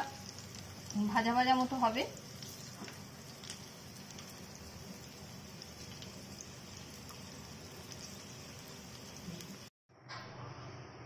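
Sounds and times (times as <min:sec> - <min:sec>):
chillies sizzling in oil: 0:00.0 - 0:09.7
oil popping: 0:00.0 - 0:09.7.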